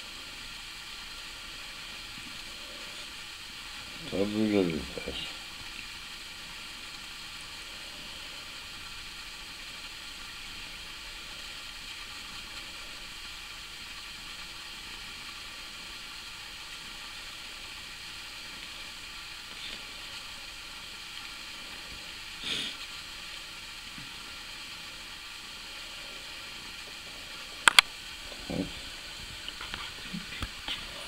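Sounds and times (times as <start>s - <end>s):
recording hiss: 0.0s - 31.0s.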